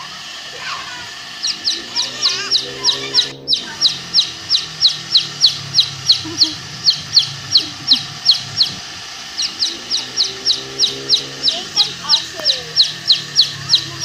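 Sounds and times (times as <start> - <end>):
bird chirping: 1.4 - 14.0.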